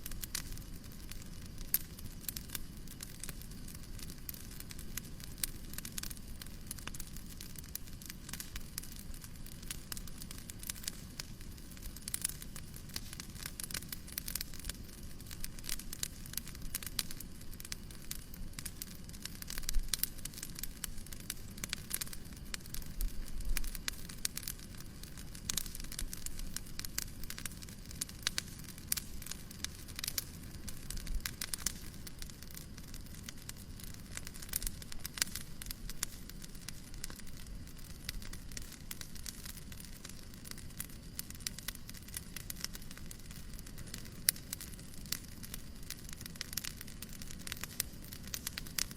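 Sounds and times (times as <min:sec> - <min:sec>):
soft fire hiss: 0:00.0 - 0:48.9
wood fire crackling: 0:00.0 - 0:48.9.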